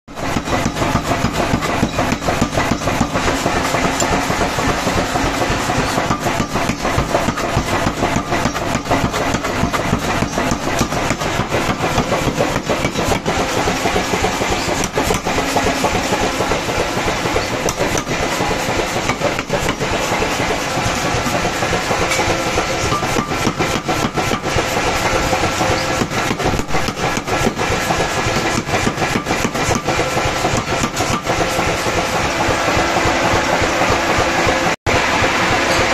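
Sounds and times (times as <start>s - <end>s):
power hammer striking hot steel: 0.1s - 35.9s.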